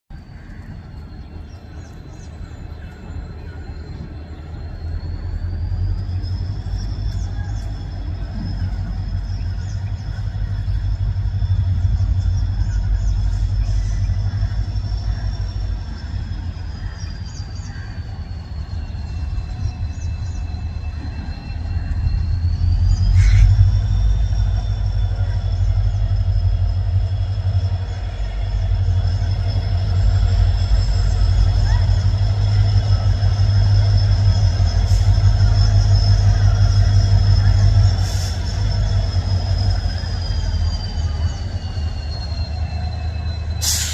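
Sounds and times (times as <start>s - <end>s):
high whine: 0.1s - 43.9s
high-pitched wheel squeal: 0.1s - 43.9s
train rumbling: 0.1s - 43.9s.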